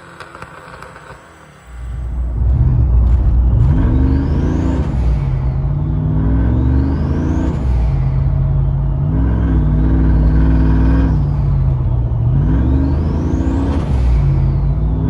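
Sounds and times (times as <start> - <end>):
engine revving: 0.0 - 15.0
high whine: 1.0 - 15.0.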